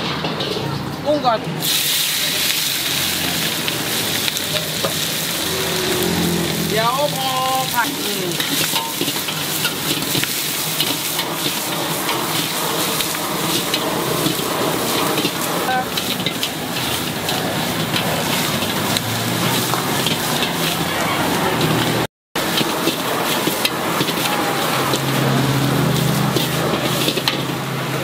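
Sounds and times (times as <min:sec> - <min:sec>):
shrimp sizzling in a wok: 0:01.6 - 0:28.0.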